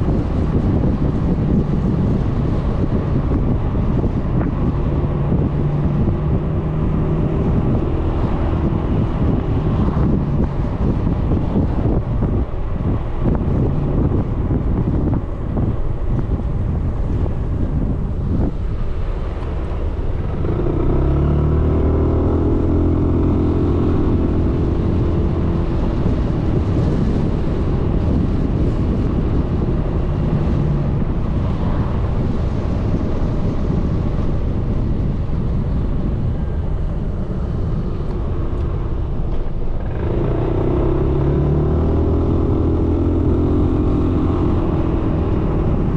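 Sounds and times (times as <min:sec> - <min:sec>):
wind on microphone: 0:00.0 - 0:45.9.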